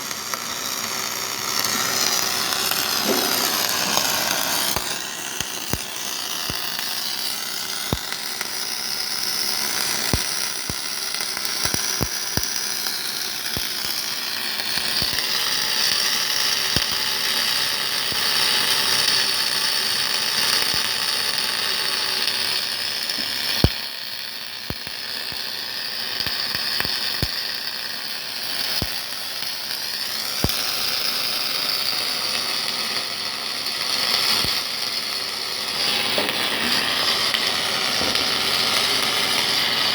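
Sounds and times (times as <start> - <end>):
sharp welding crackles: 0.0 - 39.9
welding hiss: 0.0 - 39.9.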